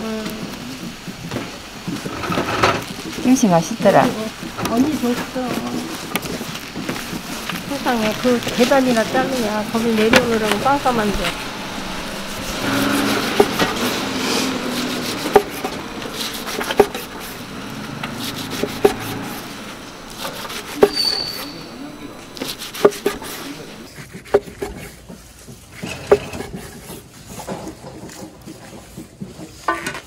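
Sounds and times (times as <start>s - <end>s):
soft rubbing and rustling: 0.1s - 30.0s.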